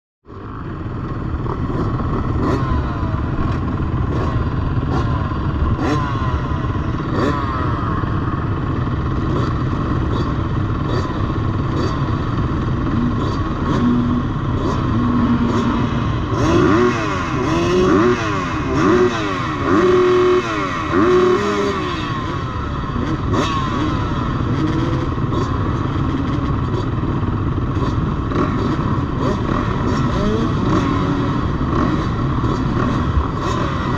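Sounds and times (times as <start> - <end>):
motocross bikes racing: 0.3 - 33.9
motorcycle revving up and down: 0.3 - 33.9.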